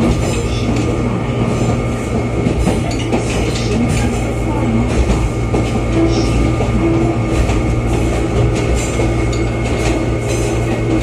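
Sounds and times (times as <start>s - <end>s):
train cabin rumble: 0.0s - 11.0s.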